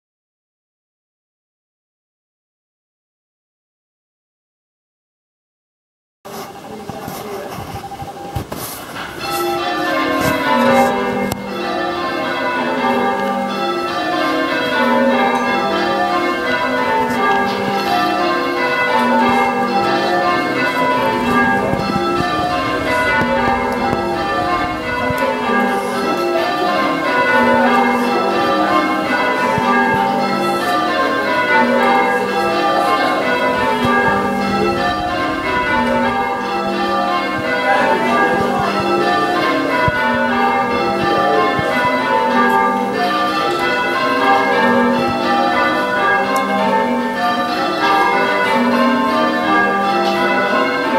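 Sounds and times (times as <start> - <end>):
church bells change ringing: 6.5 - 50.9.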